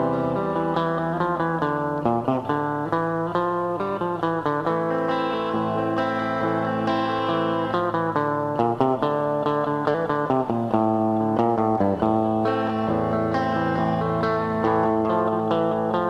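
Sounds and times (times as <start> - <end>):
solo guitar playing: 0.0 - 16.0.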